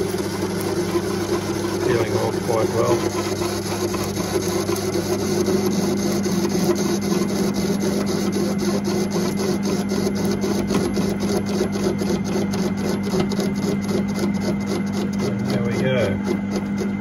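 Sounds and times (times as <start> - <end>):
lathe motor humming: 0.0 - 17.0.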